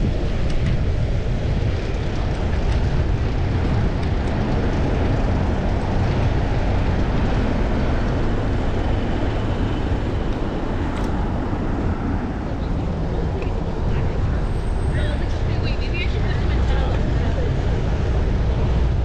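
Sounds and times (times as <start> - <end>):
road noise: 0.0 - 19.0
wind rushing over camera: 0.0 - 19.0.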